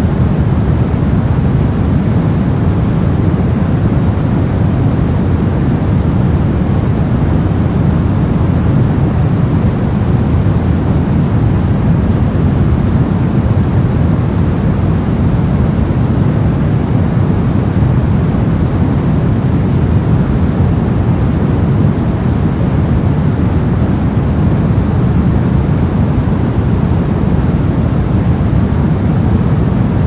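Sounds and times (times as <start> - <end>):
brown noise: 0.0 - 30.0.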